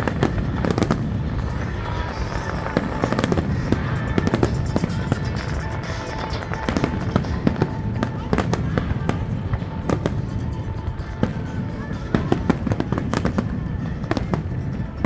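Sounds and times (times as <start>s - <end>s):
firework bangs and crackles: 0.0s - 15.0s.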